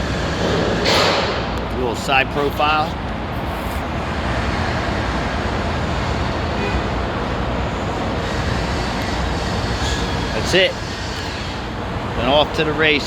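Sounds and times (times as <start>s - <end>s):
machinery rumble with hiss: 0.0s - 13.0s.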